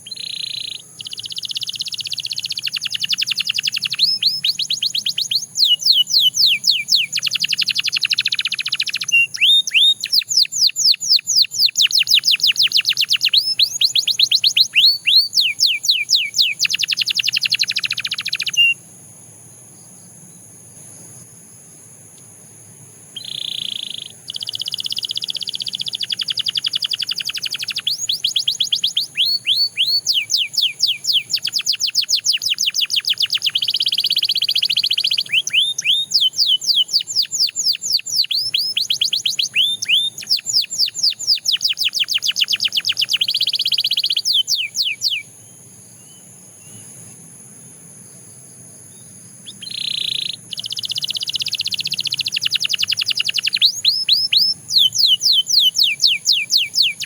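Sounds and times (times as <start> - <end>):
canary singing trills: 0.0 - 18.9, 23.1 - 47.2, 48.9 - 57.0
faint high hiss: 0.0 - 57.0.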